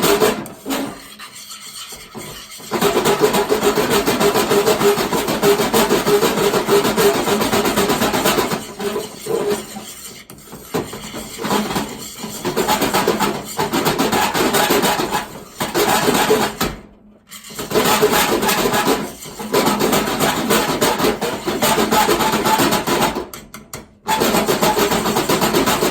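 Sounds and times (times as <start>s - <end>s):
utensils scraping frying pan: 0.0s - 23.2s.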